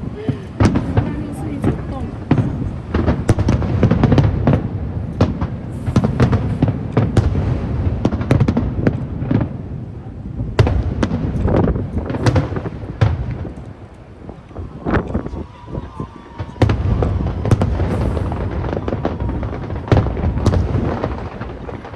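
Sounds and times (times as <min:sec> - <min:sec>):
fireworks bursting bangs: 0:00.0 - 0:21.9.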